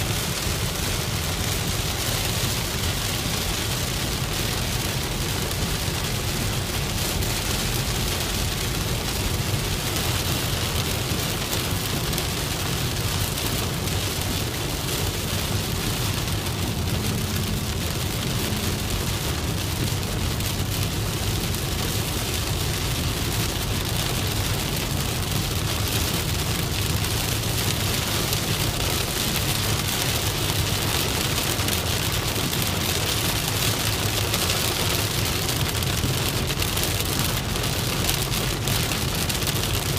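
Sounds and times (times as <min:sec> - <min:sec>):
car driving hum: 0:00.0 - 0:39.9
rain hissing on a car: 0:00.0 - 0:39.9.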